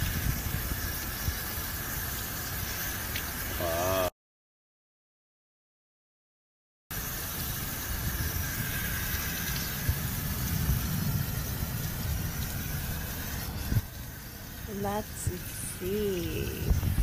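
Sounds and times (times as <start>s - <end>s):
tap water running and splashing: 0.0s - 3.6s, 6.9s - 17.0s.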